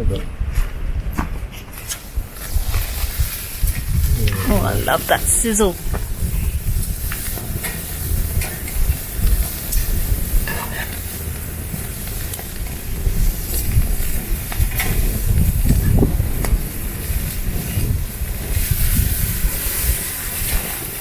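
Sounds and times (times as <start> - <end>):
steak sizzling over a campfire: 1.7 - 21.0.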